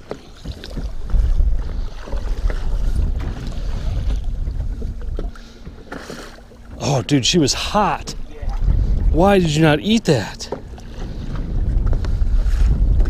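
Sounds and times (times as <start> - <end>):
wind buffeting microphone: 0.0 - 6.0, 6.6 - 13.0
water slapping at boat: 0.0 - 13.0.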